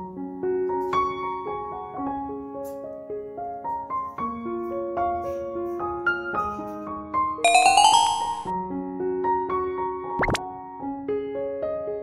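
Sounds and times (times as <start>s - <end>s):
gentle piano melody: 0.0s - 12.0s.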